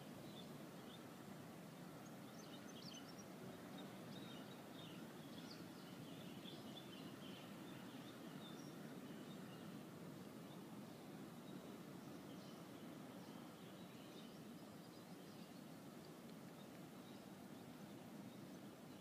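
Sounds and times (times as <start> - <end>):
low steady hiss: 0.0 - 19.0.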